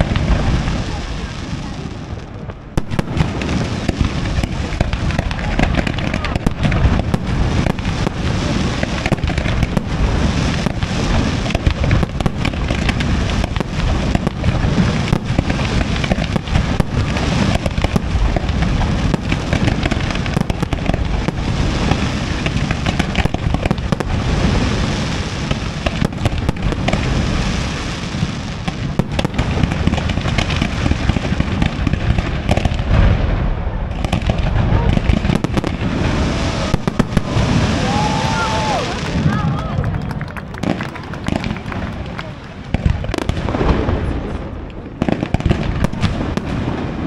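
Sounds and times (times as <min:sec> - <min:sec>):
fireworks bangs and crackle: 0:00.0 - 0:47.0.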